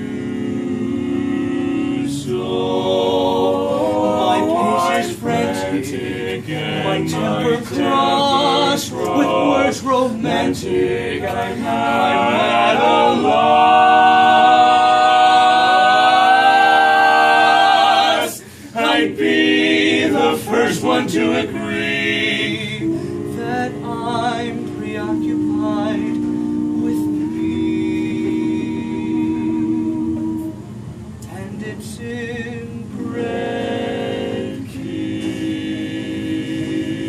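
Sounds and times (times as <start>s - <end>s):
male quartet singing a cappella: 0.0s - 37.0s.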